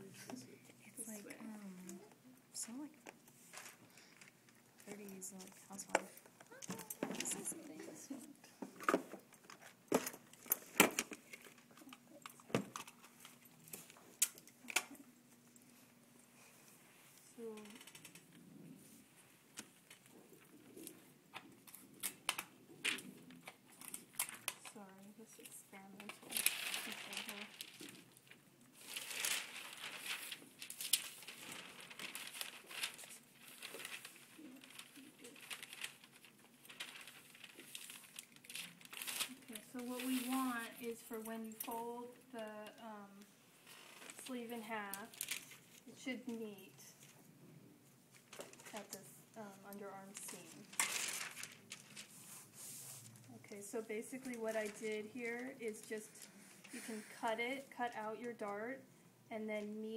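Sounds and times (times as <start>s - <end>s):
faint steady hum: 0.0s - 59.9s
paper rustling and crinkling: 0.2s - 15.8s, 17.4s - 42.8s, 43.6s - 47.2s, 48.1s - 58.6s.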